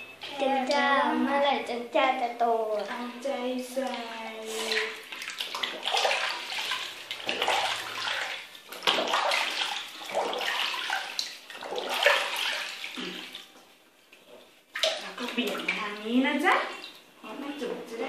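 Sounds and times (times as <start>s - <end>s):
bathwater splashing and sloshing: 2.0s - 18.0s.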